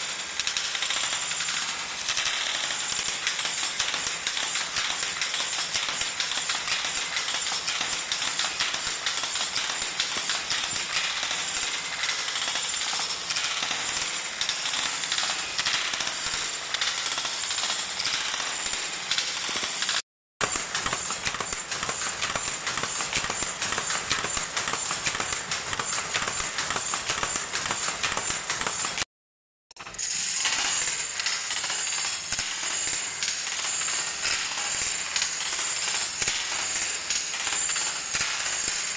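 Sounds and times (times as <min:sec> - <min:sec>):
loom weaving clatter: 0:00.0 - 0:29.1, 0:29.8 - 0:38.9.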